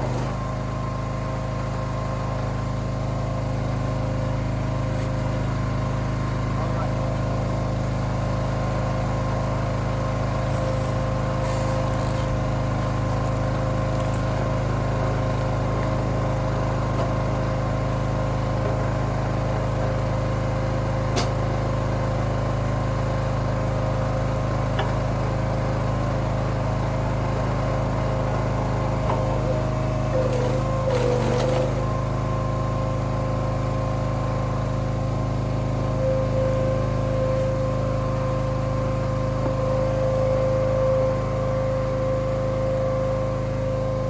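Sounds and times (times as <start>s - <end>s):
small gasoline engine running: 0.0s - 44.0s.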